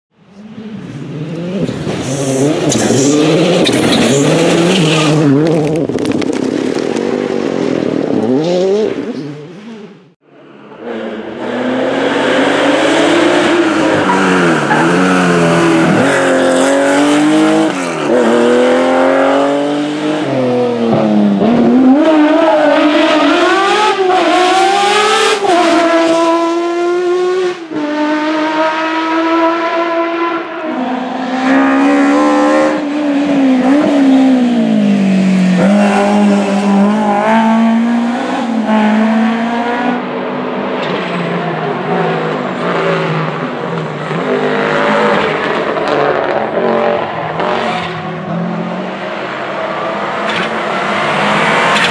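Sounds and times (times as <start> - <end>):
rally car engines at full throttle: 0.1 - 51.9.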